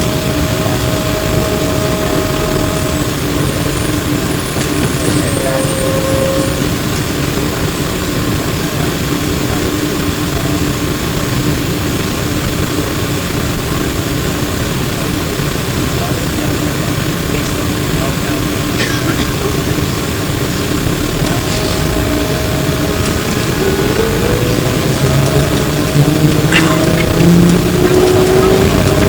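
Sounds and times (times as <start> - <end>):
rumble of road noise: 0.0 - 29.0
trolleybus hum: 0.0 - 29.0.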